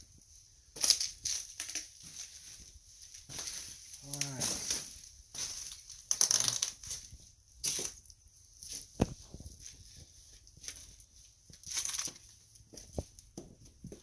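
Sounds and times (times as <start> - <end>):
footsteps crunching on debris: 0.7 - 14.0.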